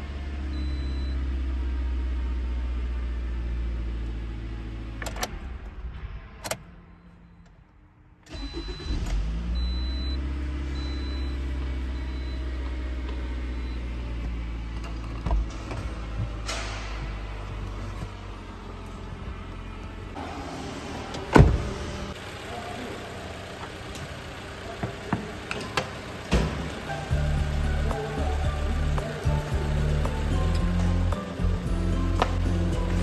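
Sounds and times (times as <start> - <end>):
car engine idling: 0.0 - 33.0
car engine starting: 0.0 - 33.0.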